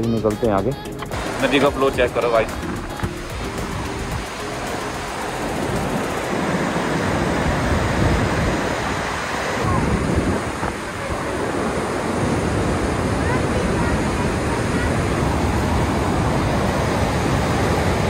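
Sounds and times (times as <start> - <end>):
rushing whitewater: 1.1 - 18.0.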